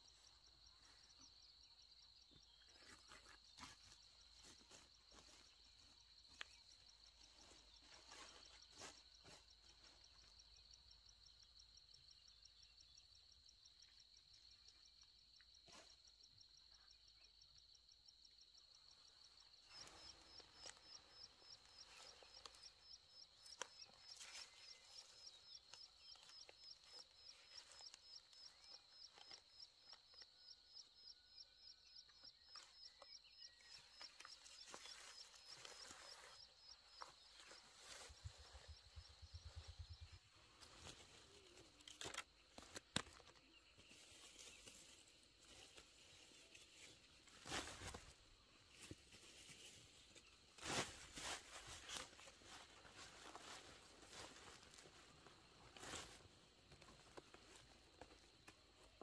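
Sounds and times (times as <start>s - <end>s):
insect buzzing and chirping: 0.0s - 59.0s.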